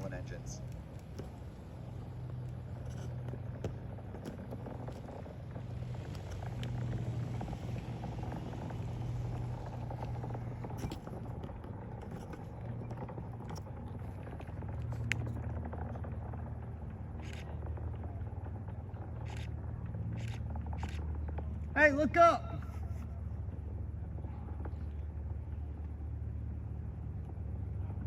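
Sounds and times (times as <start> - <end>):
distant rocket engine rumble: 0.0 - 28.0.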